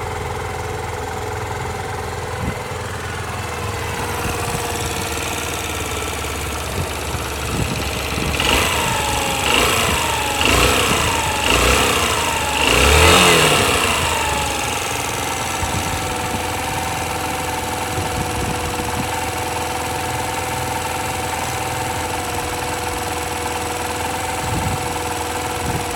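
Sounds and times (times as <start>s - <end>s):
motorcycle engine idling and revving: 0.0s - 25.9s.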